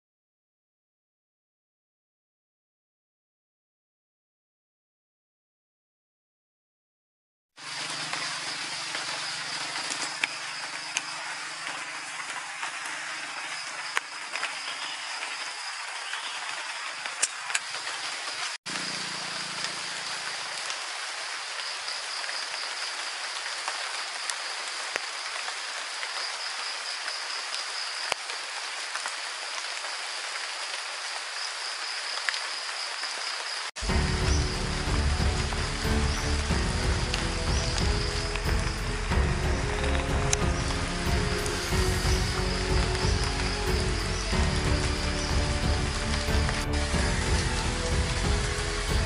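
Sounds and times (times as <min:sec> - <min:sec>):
heavy rain on foliage: 0:07.6 - 0:49.0.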